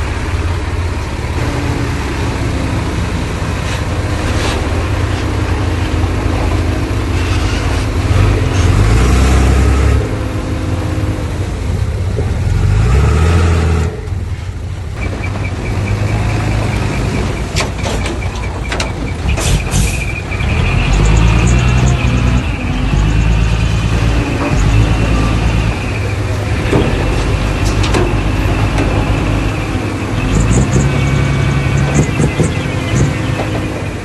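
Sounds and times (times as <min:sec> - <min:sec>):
heavy diesel machinery working: 0:00.0 - 0:34.0.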